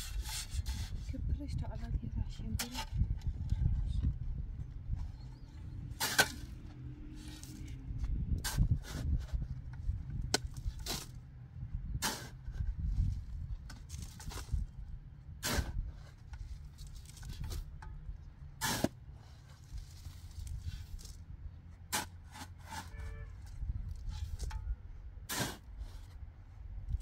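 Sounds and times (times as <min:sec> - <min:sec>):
steady low rumble: 0:00.6 - 0:22.0, 0:23.3 - 0:27.0.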